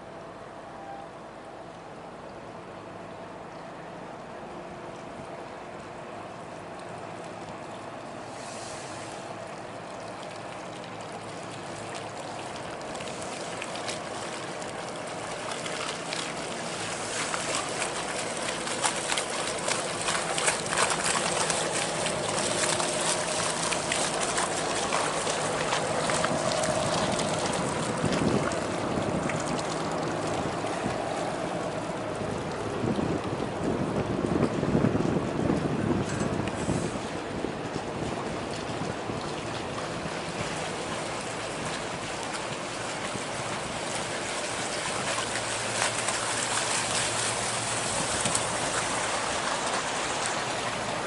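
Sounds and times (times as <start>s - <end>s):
water splashing along steel hull: 0.0s - 51.0s
diesel engine hum: 0.1s - 51.0s.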